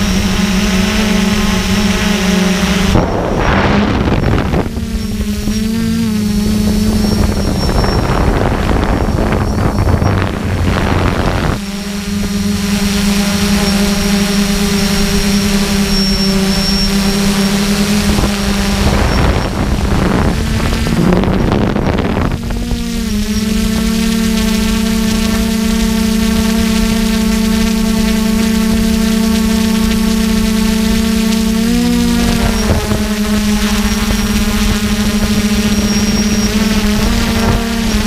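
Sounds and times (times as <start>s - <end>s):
wind gusts: 0.0s - 26.7s, 28.3s - 38.0s
drone propellers whining: 0.0s - 38.0s.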